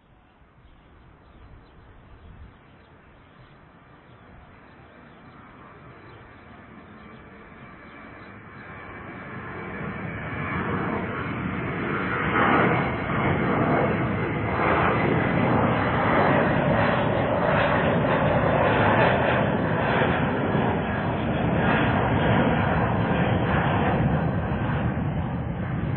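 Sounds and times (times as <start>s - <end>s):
airplane engine rush: 0.0s - 25.9s.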